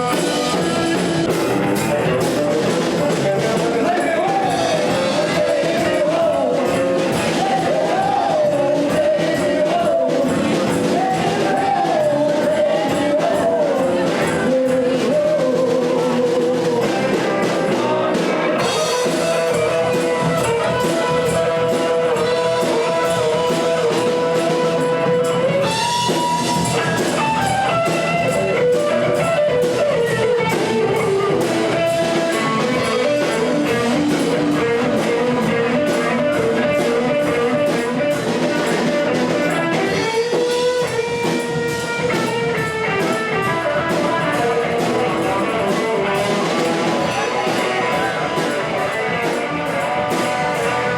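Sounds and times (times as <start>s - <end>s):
drum kit: 0.0s - 50.9s.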